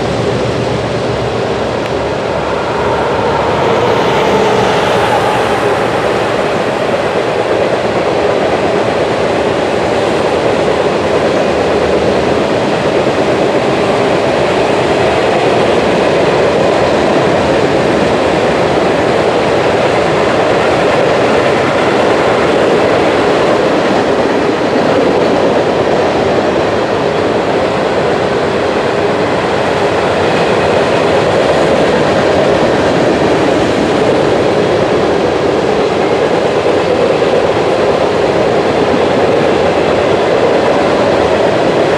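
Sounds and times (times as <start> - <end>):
freight train steel wheels on rail: 0.0 - 41.9.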